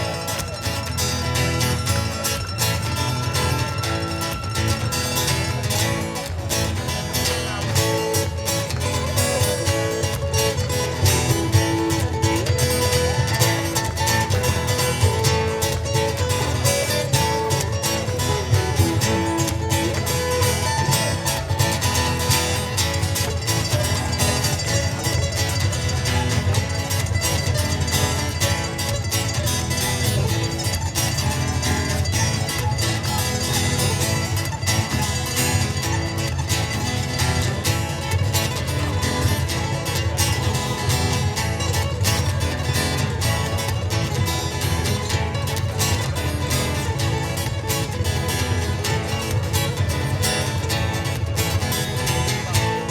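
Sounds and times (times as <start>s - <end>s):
picked melody: 0.0s - 52.9s
ukulele strumming: 0.0s - 52.9s.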